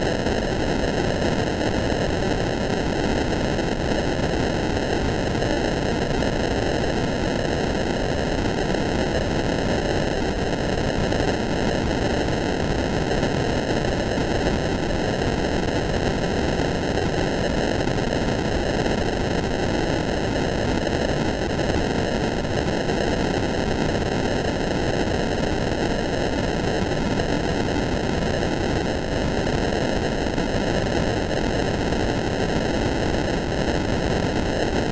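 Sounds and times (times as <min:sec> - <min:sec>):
loud steady static: 0:00.0 - 0:34.9.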